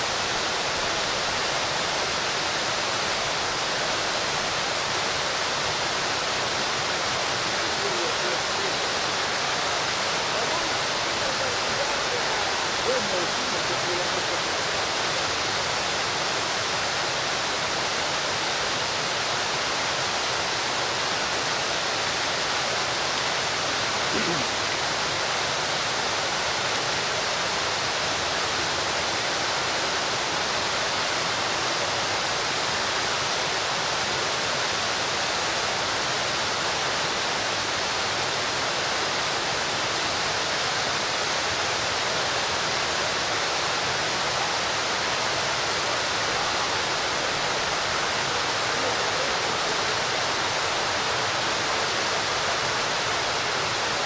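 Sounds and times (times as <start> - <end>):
fountain water splashing into pool: 0.0 - 54.0.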